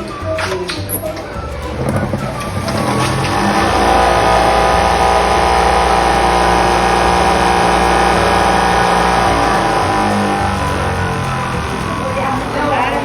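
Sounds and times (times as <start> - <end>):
spin dryer motor whining: 1.8 - 13.0.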